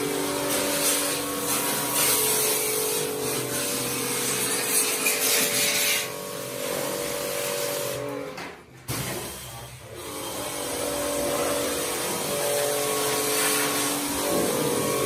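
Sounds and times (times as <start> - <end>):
water jet hissing on plastic: 0.0 - 8.0, 10.9 - 15.0
pressure washer motor hum: 0.0 - 15.0.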